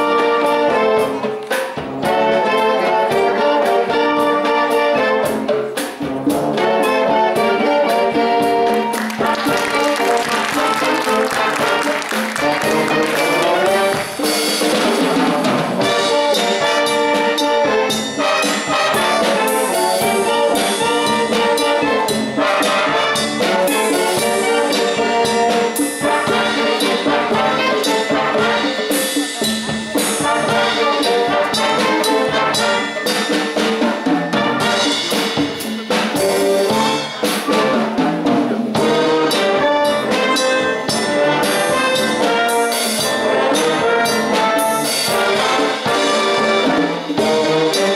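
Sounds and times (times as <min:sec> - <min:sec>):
drum kit: 0:00.0 - 0:47.9
wind band playing dance tune: 0:00.0 - 0:47.9.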